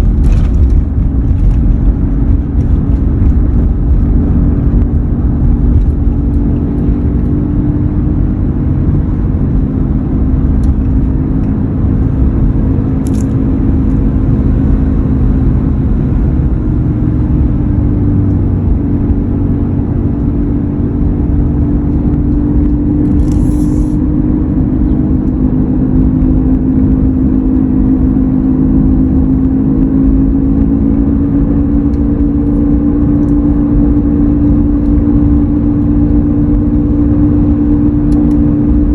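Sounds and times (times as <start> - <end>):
road and engine rumble: 0.0 - 38.9
truck engine hum: 0.0 - 38.9.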